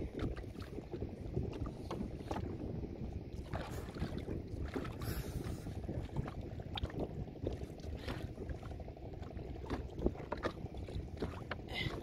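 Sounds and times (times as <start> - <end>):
water lapping against boat: 0.0 - 12.0
wind rumbling on microphone: 0.0 - 12.0.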